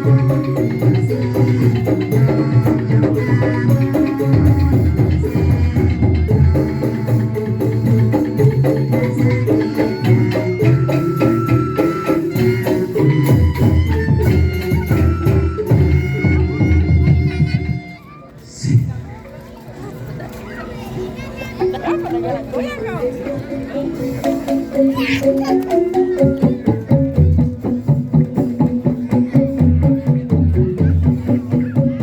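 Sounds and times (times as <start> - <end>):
drums and hand percussion: 0.0 - 32.0
live folk band music: 0.0 - 32.0.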